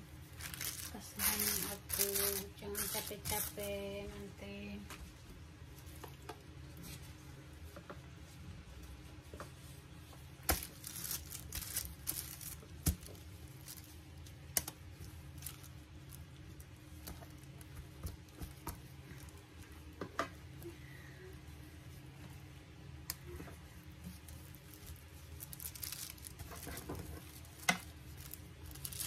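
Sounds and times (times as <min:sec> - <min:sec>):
plastic gloves crinkling: 0:00.0 - 0:20.7, 0:21.4 - 0:29.0
low steady hum: 0:00.0 - 0:29.0.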